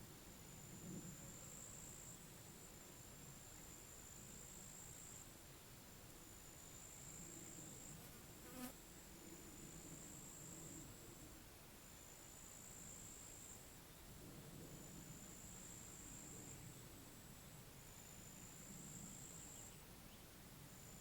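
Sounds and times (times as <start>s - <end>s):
faint low background noise: 0.0s - 21.0s.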